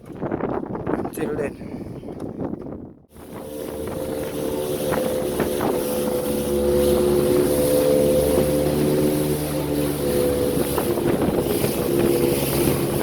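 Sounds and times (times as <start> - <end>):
wind buffeting microphone: 0.0 - 13.0
motorboat engine running: 2.0 - 13.0.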